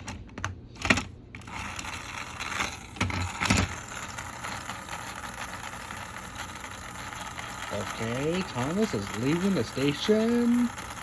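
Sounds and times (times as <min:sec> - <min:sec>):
toy train motor whirring: 0:01.3 - 0:11.0.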